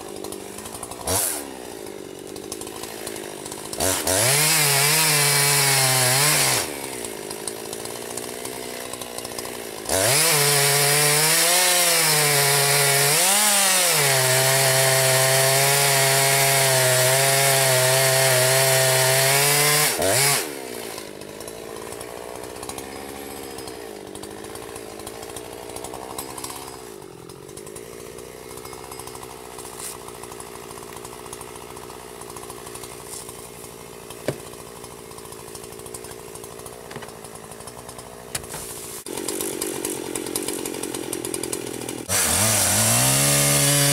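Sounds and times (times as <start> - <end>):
chainsaw running: 0.0 - 43.9.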